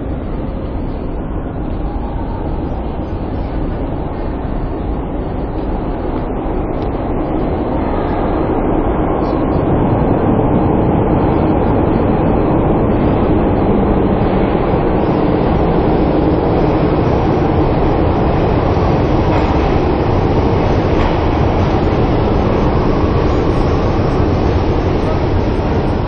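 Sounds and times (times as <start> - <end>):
metro train rumbling: 0.0 - 26.0.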